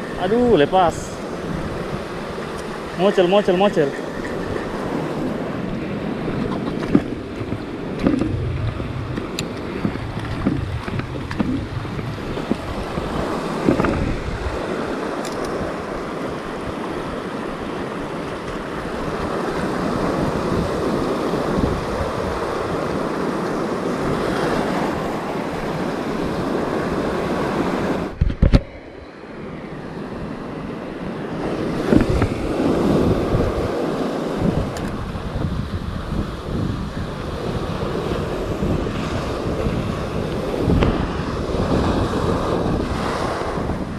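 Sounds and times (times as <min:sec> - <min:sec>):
surf breaking over rocks: 0:00.0 - 0:29.0, 0:36.1 - 0:43.9
wind buffeting microphone: 0:00.0 - 0:43.9.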